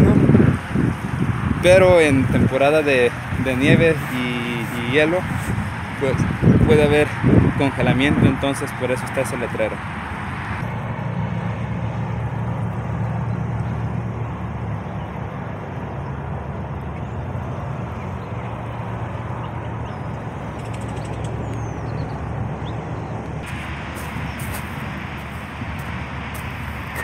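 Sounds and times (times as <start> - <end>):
freeway traffic roar: 0.0 - 27.0.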